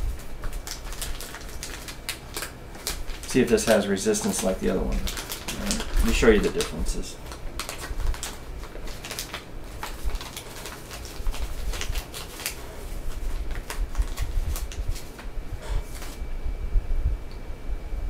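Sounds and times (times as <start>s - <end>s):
packet crinkling: 0.0s - 16.2s.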